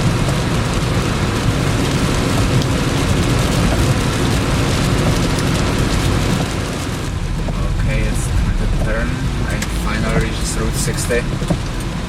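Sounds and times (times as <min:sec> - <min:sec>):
rain on car: 0:00.0 - 0:12.0
road and engine noise inside car: 0:00.0 - 0:12.0.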